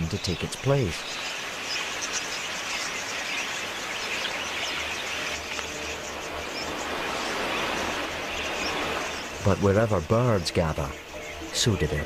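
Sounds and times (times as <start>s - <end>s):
flock of budgerigars chattering: 0.0s - 12.0s.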